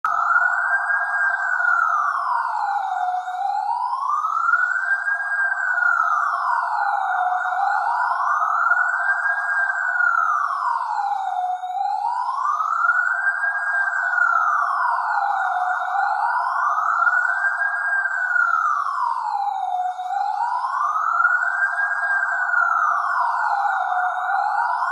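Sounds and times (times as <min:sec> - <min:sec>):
police siren wailing: 0:00.0 - 0:24.9.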